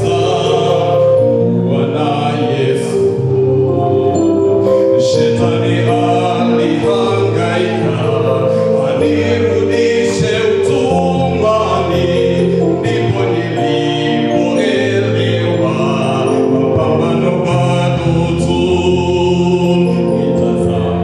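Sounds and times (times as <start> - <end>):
electronic keyboard chords: 0.0 - 21.0
man singing gospel into microphone: 0.0 - 21.0.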